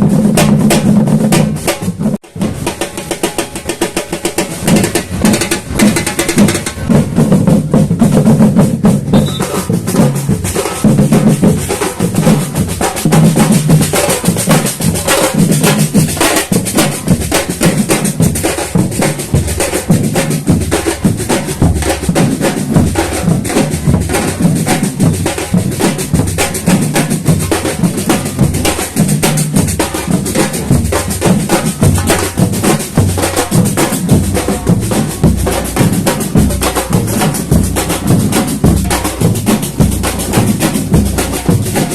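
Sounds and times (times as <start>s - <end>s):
bass drums: 0.0s - 41.9s
snare drums: 0.0s - 41.9s.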